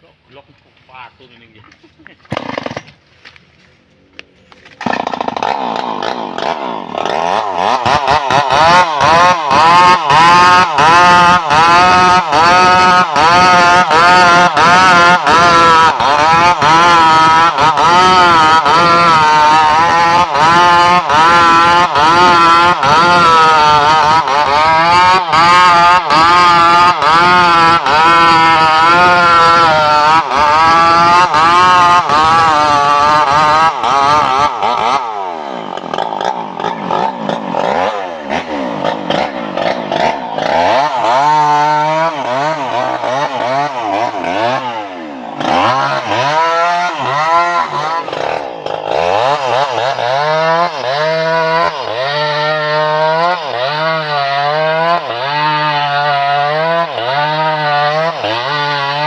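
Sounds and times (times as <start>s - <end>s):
chainsaw engine revving: 2.2s - 3.0s, 4.6s - 59.0s
chainsaw cutting wood: 2.2s - 3.4s, 4.3s - 59.0s.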